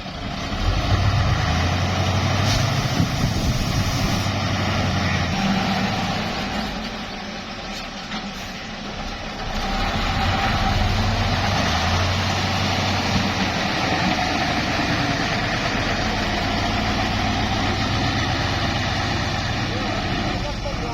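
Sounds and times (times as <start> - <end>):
heavy truck engine running: 0.0 - 20.9.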